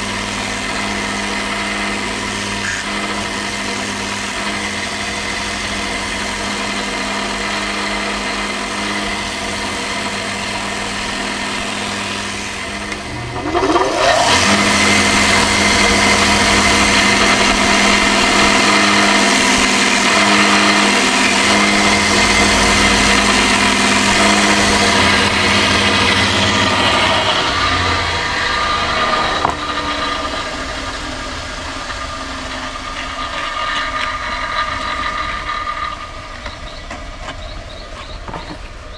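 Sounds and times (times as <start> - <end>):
electric sander running: 0.0 - 38.9.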